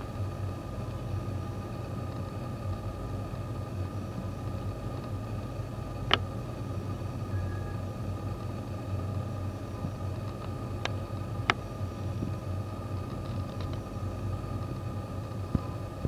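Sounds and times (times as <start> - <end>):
faint high whine: 0.0 - 16.0
low room hum: 0.0 - 16.0.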